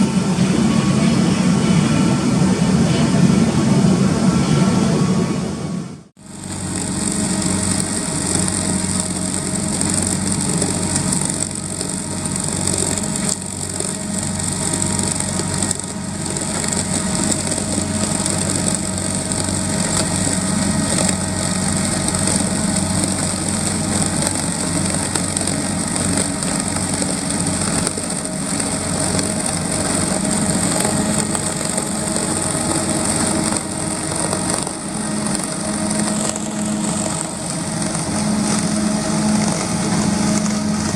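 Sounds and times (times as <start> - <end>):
diesel engine hum: 0.0 - 40.9
constant high hiss: 6.2 - 40.9.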